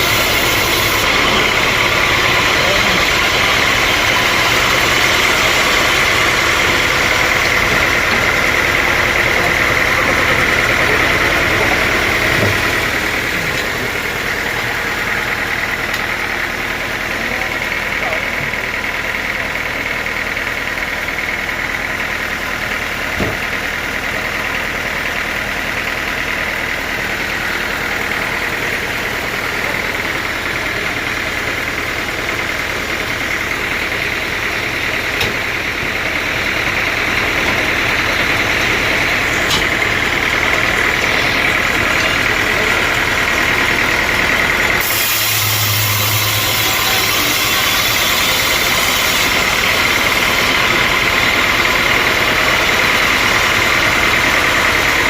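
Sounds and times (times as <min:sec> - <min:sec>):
sawmill machinery whining: 0:00.0 - 0:55.0.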